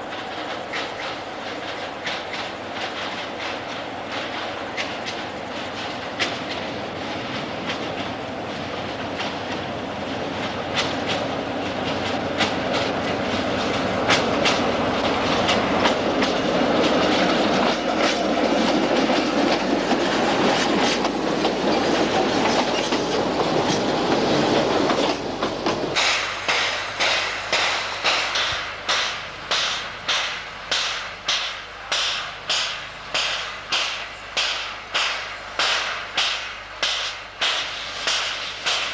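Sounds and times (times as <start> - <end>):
diesel train passing: 0.0 - 38.9
steam locomotive exhaust chuffing: 0.0 - 38.9
wheels clicking over rail joints: 0.0 - 38.9.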